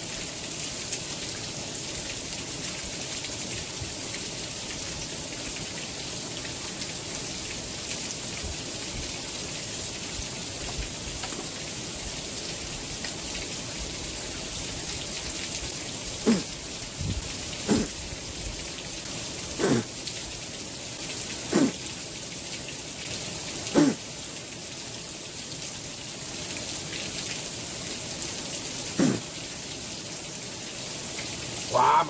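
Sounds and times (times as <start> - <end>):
water dripping from a roof: 0.0 - 32.0.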